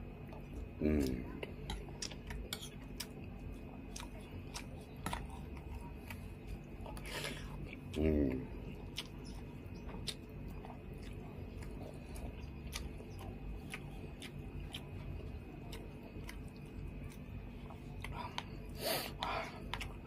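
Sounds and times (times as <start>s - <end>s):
low steady hum: 0.0s - 20.0s
chewing and lip smacking: 0.1s - 20.0s.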